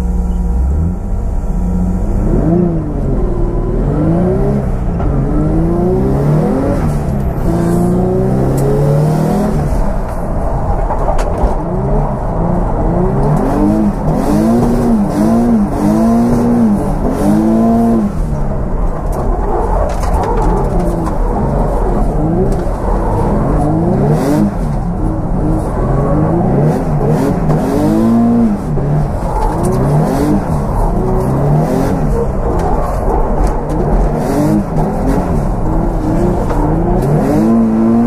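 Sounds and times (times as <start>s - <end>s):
car engine revving hard: 0.0s - 10.4s, 11.5s - 38.0s.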